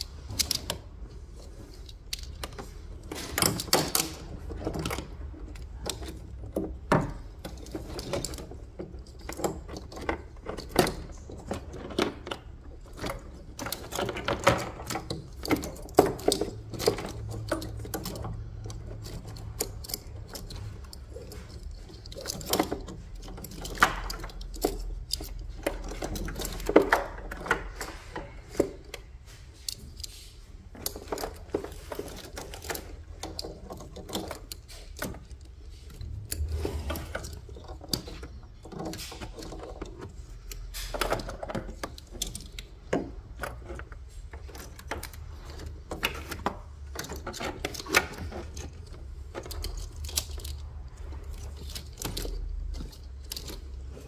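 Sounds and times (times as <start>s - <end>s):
plastic connectors clicking and rattling: 0.0s - 54.0s.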